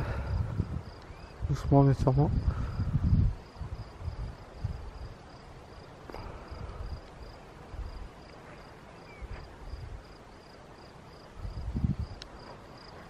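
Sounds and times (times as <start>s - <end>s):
wind buffeting microphone: 0.0s - 10.3s, 11.1s - 13.0s.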